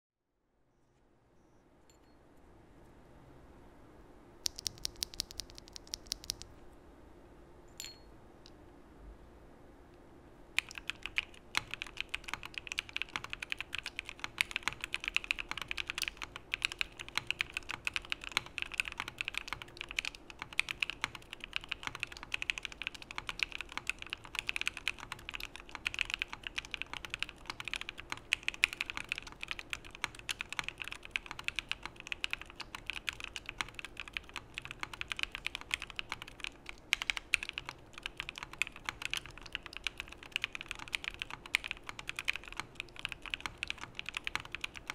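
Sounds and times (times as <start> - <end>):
mechanical keyboard typing: 4.4 - 6.5, 10.6 - 44.9.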